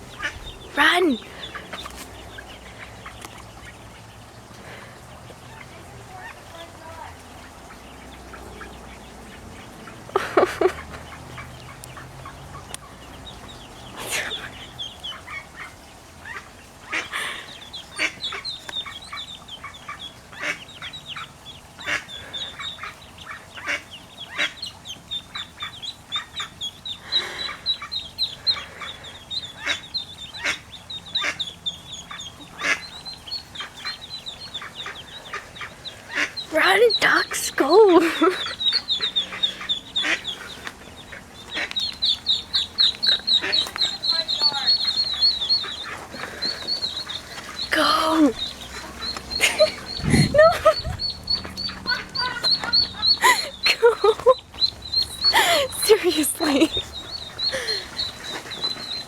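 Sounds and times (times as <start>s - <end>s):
ducklings peeping: 0.0s - 59.0s.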